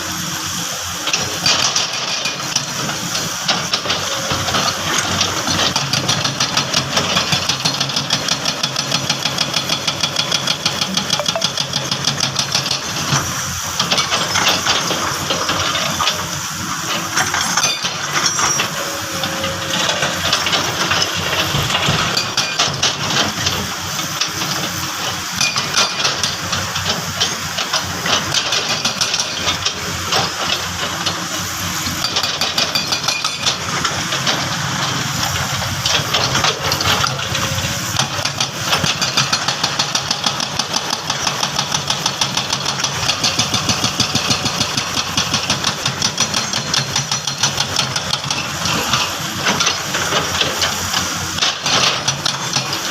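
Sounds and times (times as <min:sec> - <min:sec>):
diesel engine clattering: 0:00.4 - 0:52.9.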